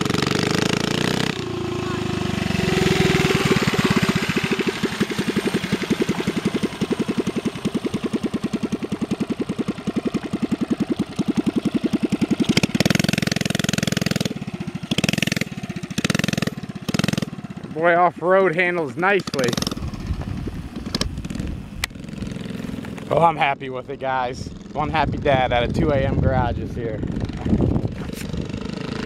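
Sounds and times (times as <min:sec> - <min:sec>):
small engine running and revving: 0:00.0 - 0:17.6, 0:19.0 - 0:23.3, 0:26.8 - 0:29.0.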